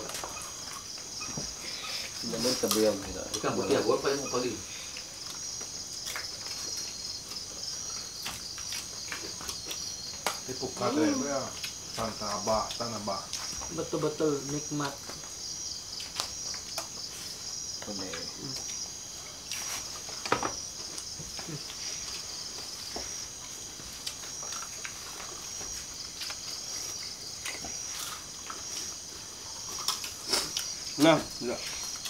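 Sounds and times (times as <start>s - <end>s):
crickets and insects chirring: 0.0s - 32.0s.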